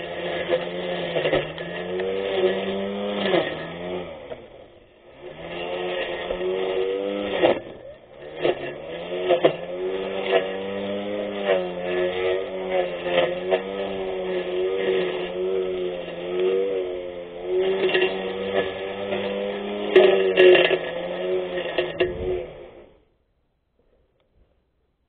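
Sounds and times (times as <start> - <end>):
grass cutter motor whine: 0.0 - 23.1.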